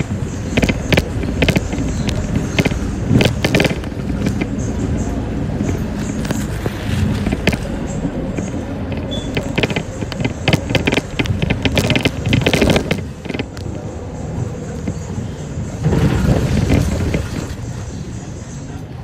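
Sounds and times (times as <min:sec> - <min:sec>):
interior fittings clicking and rattling: 0:00.0 - 0:15.2, 0:15.8 - 0:17.8
bus engine and road rumble: 0:00.0 - 0:19.0.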